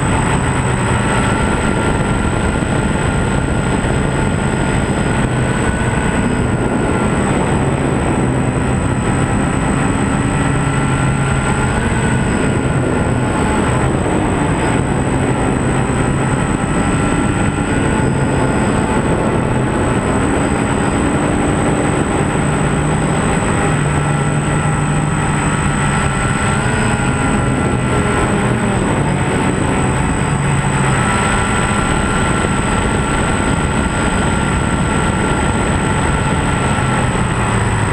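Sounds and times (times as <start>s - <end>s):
drone motors and propellers: 0.0s - 37.9s
high whine: 0.0s - 37.9s
wind noise: 0.0s - 37.9s.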